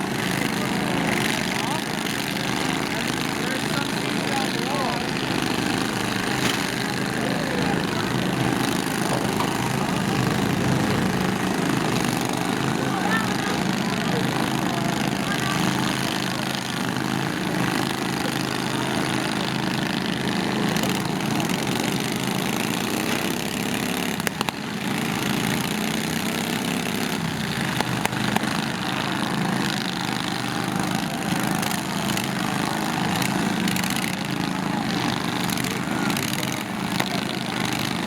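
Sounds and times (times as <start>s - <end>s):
lawn tractor engines running: 0.0s - 38.0s.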